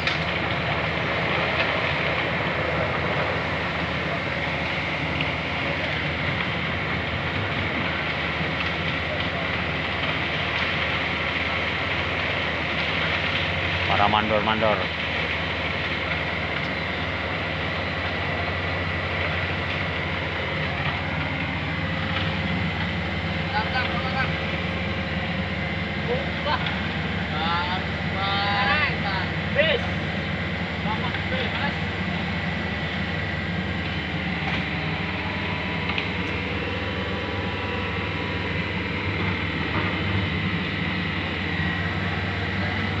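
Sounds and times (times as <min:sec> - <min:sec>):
diesel engine drone: 0:00.0 - 0:43.0
thin steady whine: 0:00.0 - 0:43.0.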